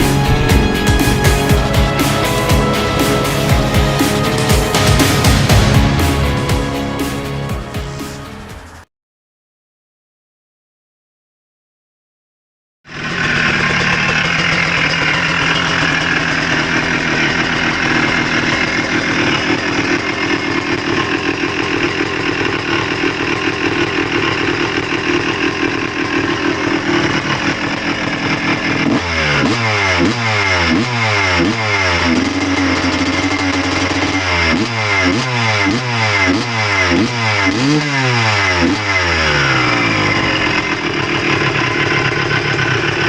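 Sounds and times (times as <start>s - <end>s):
two-stroke motorcycle engine revving: 0.0s - 8.8s, 12.9s - 43.0s.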